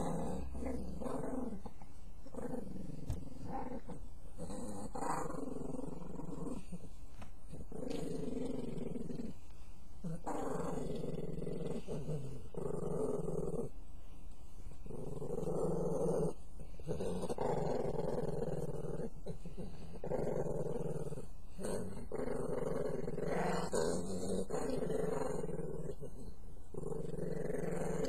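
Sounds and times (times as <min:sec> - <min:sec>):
dog growling: 0:00.0 - 0:06.9, 0:07.5 - 0:09.4, 0:10.0 - 0:13.7, 0:14.8 - 0:28.0.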